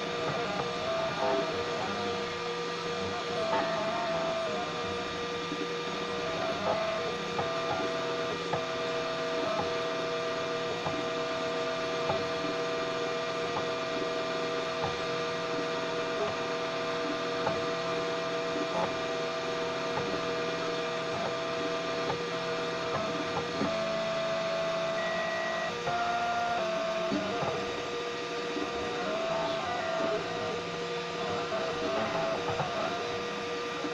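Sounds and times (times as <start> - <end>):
stepper motors humming: 0.0 - 33.9.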